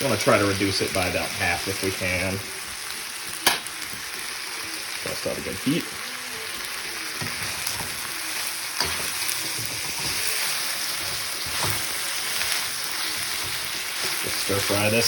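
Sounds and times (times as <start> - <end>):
noodles sizzling in a wok: 0.0 - 15.0.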